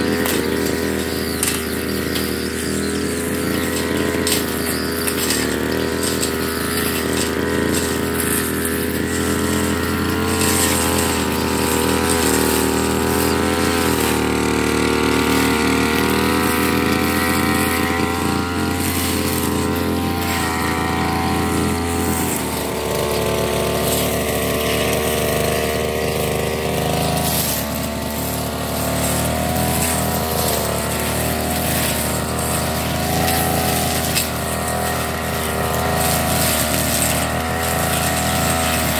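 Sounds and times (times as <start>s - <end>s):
brush cutter engine running: 0.0s - 38.9s
line head cutting grass: 0.0s - 38.9s.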